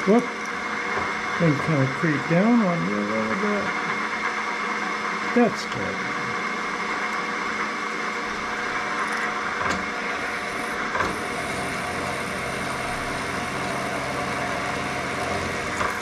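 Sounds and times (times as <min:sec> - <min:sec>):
drill press humming and whining: 0:00.0 - 0:16.0.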